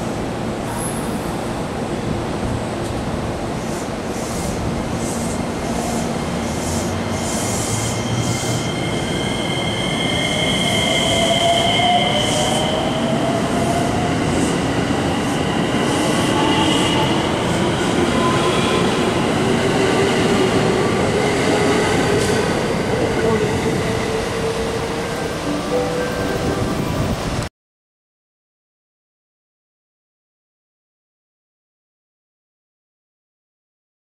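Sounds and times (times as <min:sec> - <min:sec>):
rumble of train cars: 0:00.0 - 0:27.5.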